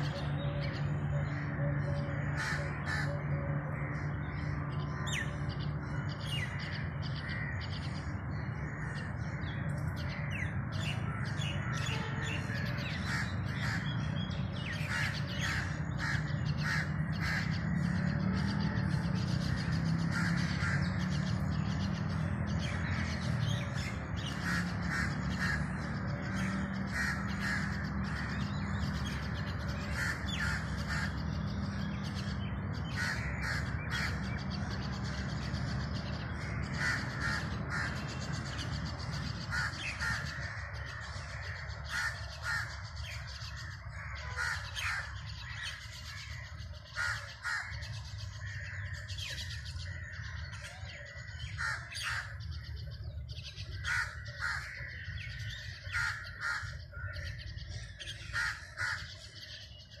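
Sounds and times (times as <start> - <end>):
birds calling: 0.0 - 60.0.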